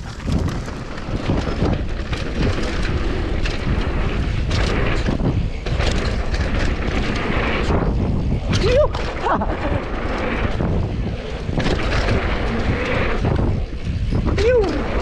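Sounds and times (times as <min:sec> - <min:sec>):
bike knocking and rattling: 0:00.0 - 0:15.0
tyres rumbling on trail: 0:00.0 - 0:15.0
wind buffeting microphone: 0:00.0 - 0:15.0.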